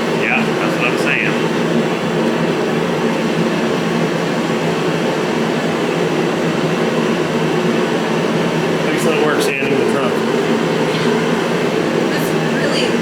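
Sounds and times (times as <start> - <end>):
machine drone: 0.0 - 13.0.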